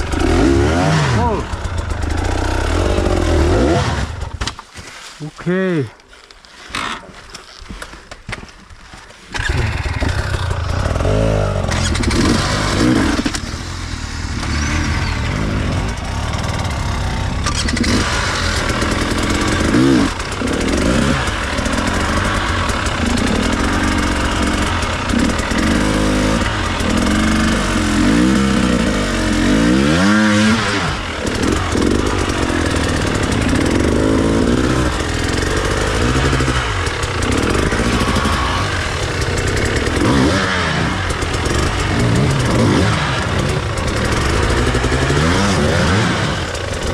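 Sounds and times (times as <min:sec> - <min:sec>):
dirt bike engine revving: 0:00.0 - 0:04.4, 0:09.3 - 0:46.9.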